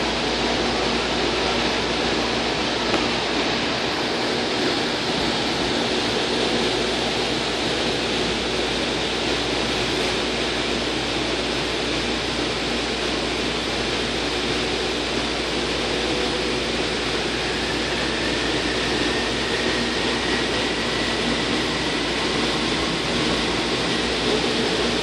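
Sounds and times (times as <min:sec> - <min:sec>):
faint train whine: 0:00.0 - 0:25.0
train rumble and hiss: 0:00.0 - 0:25.0.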